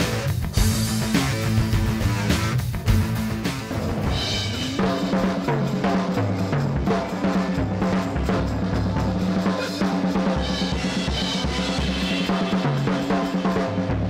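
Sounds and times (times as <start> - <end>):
low bass notes: 0.0 - 12.6
guitar-led music: 0.0 - 13.8
rock drumming on drum kit: 0.0 - 14.0.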